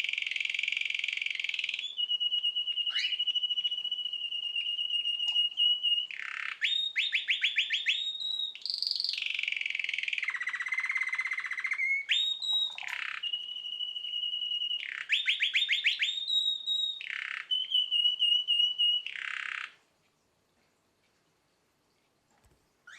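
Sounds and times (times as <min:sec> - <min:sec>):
canary singing trills: 0:00.0 - 0:19.8.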